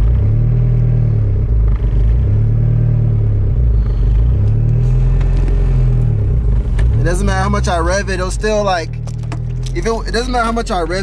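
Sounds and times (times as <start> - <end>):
car engine idling rough: 1.1 - 11.0.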